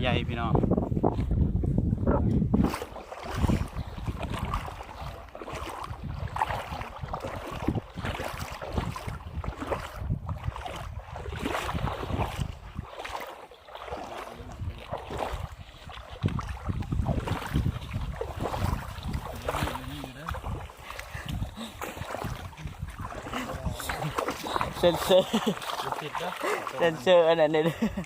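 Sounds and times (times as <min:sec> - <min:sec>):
wind buffeting microphone: 0:00.0 - 0:26.8
water sloshing and splashing: 0:00.7 - 0:28.0.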